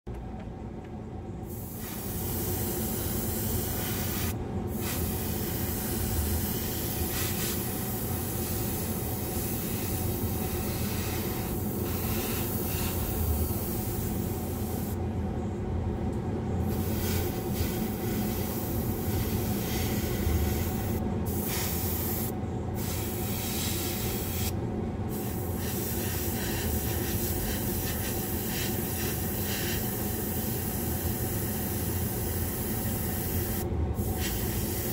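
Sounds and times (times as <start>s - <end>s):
low machine hum: 0.1s - 34.9s
airbrush spraying hiss: 1.5s - 15.0s, 16.6s - 34.9s.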